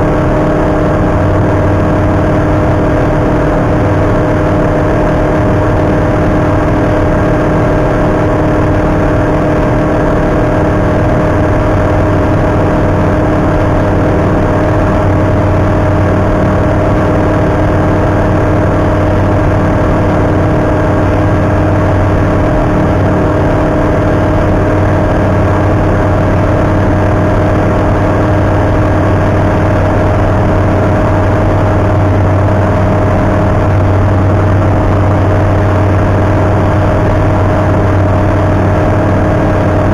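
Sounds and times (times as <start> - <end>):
deep hum: 0.0 - 39.9
light aircraft engine droning: 0.0 - 39.9.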